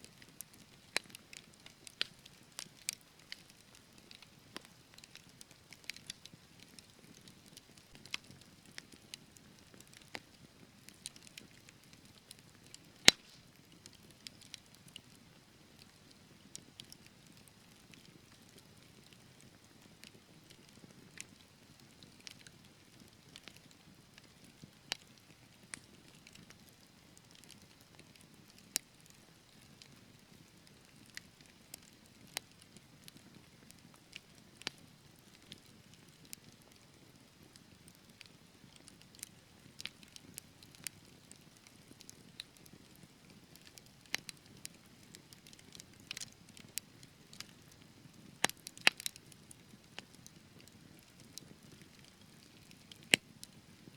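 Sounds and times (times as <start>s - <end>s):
wood fire crackling and popping: 0.1s - 53.9s.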